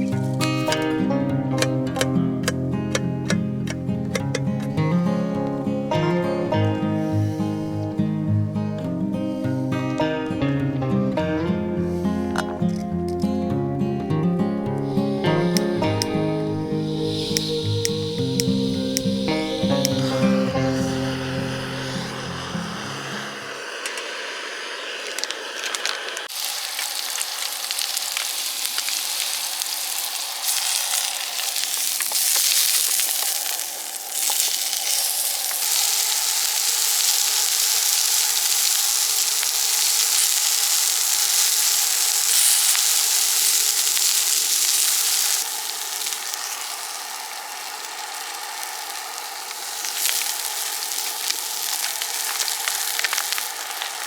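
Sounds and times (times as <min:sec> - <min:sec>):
food sizzling in a frying pan: 0:00.0 - 0:07.8, 0:14.7 - 0:54.0.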